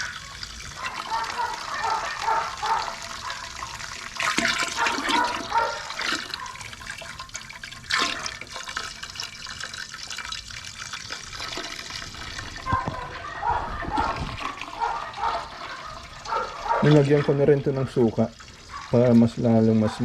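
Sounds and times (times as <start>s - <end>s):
liquid pouring and splashing: 0.0s - 20.0s.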